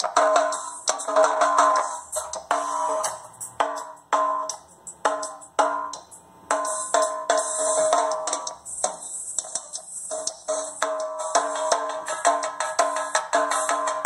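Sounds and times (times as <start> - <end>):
percussive music with drum hits: 0.0 - 14.0.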